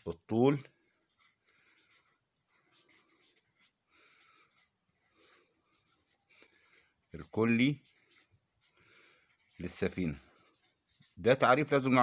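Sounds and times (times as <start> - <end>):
pen scratching on paper: 0.9 - 12.0.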